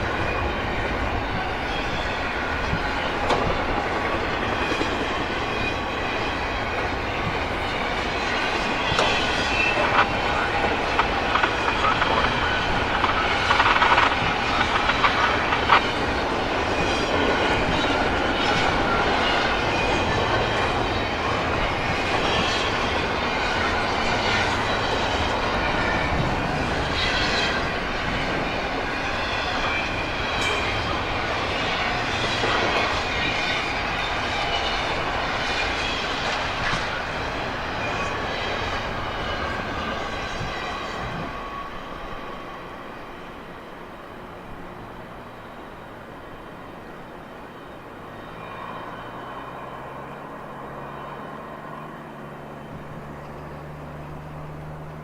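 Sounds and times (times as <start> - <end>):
train wheels clicking over rail joints: 0.0 - 47.3
wheels squealing on rails: 0.0 - 55.0.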